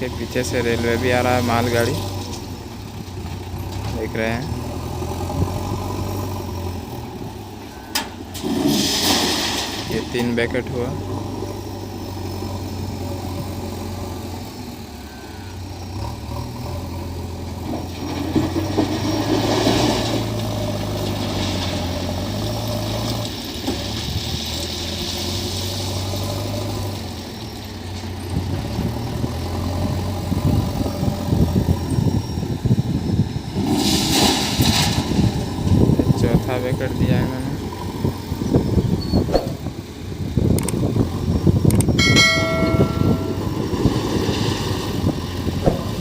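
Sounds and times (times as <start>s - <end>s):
diesel engine under load: 0.0s - 46.0s.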